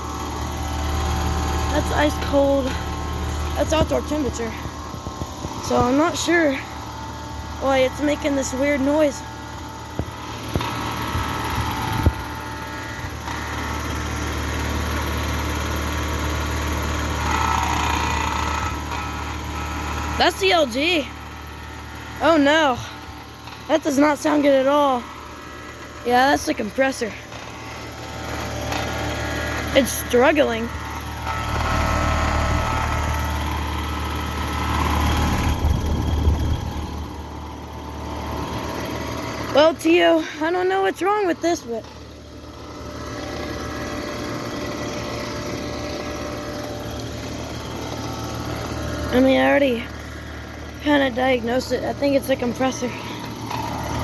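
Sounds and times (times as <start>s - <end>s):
heat pump unit humming: 0.0s - 54.0s.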